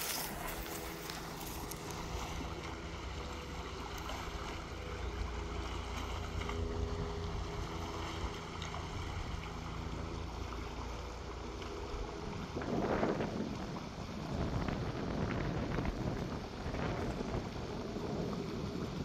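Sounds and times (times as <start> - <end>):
water running through dam: 0.0 - 19.0
wind rumbling on microphone: 0.0 - 19.0.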